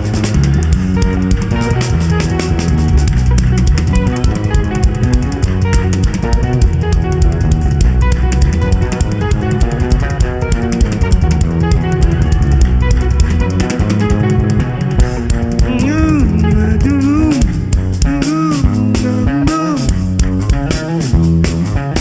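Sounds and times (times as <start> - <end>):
bass guitar: 0.0 - 22.0
drum kit steady beat: 0.0 - 22.0
guitar: 0.0 - 22.0.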